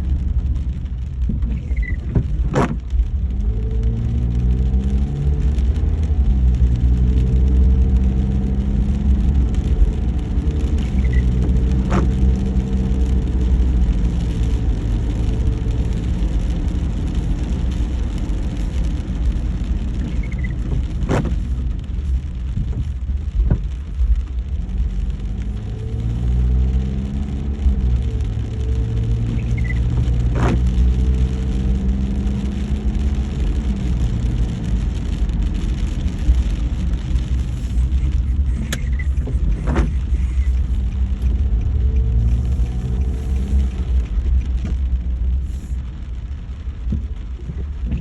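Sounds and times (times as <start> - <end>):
car engine hum: 0.0 - 48.0
road rumble: 0.0 - 48.0.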